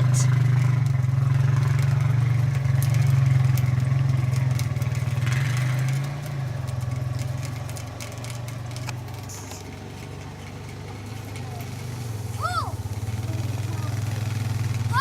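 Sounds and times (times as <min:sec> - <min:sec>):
four-wheeler engine running: 0:00.0 - 0:15.0.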